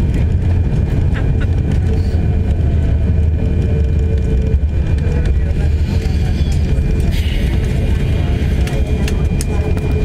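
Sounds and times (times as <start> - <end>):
aircraft rolling on runway: 0.0 - 10.0.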